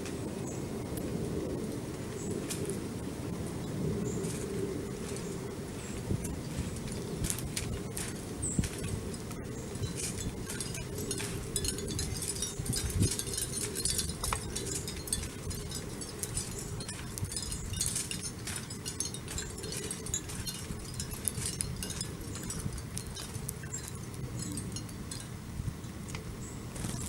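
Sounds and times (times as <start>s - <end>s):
steady low rumble: 0.0s - 27.0s
high ticks and clinks: 4.2s - 26.2s.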